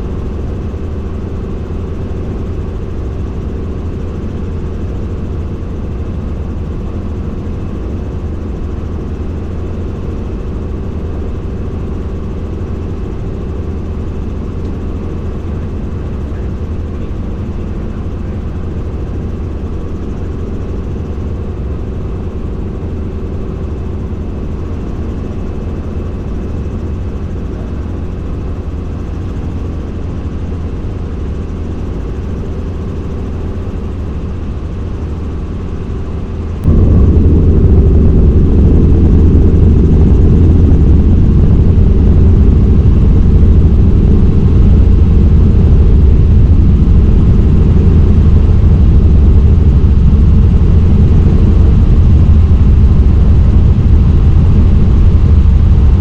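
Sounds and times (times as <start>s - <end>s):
helicopter rotor and engine: 0.0s - 56.0s.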